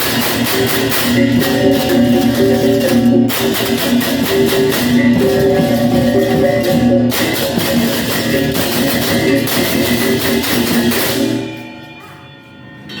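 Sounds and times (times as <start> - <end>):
drums: 0.0 - 11.8
gamelan playing loudly: 0.0 - 12.2
crashing cymbals: 0.0 - 13.0
gong tones: 0.0 - 13.0.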